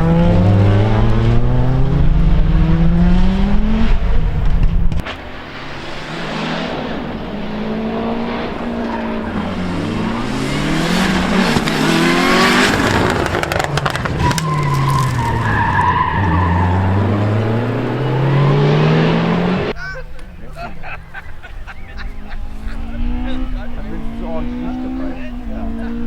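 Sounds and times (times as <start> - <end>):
engine crackles: 0.0 - 26.0
rally car engine revving: 0.0 - 26.0.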